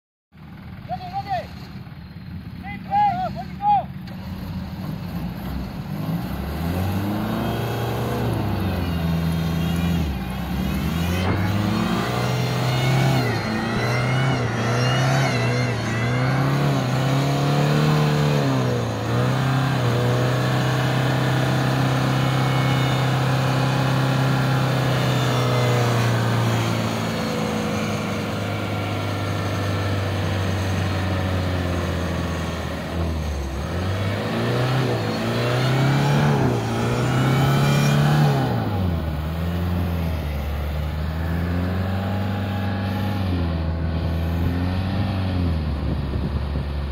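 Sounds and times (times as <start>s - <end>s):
truck engine revving: 0.4s - 46.9s.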